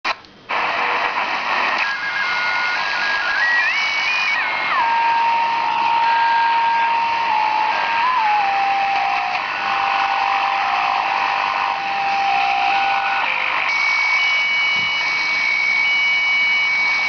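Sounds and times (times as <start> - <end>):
loud static hiss: 0.1 - 17.0
electronic alarm tones: 2.0 - 17.0.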